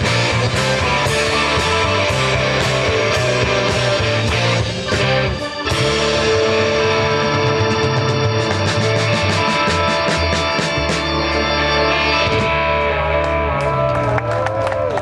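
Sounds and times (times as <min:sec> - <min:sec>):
instrumental rock band: 0:00.0 - 0:15.0.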